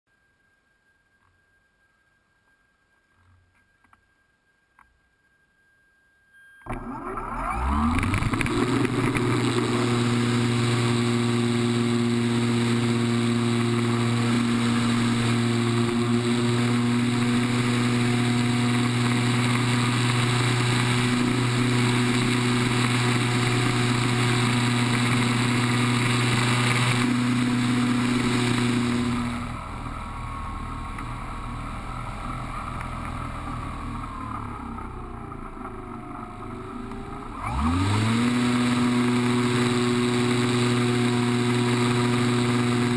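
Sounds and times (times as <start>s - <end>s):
electric motor and propeller whine: 6.6s - 42.9s.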